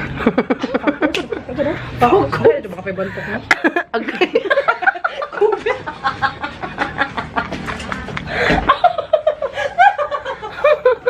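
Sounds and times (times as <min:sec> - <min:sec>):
people laughing and chattering: 0:00.0 - 0:11.0.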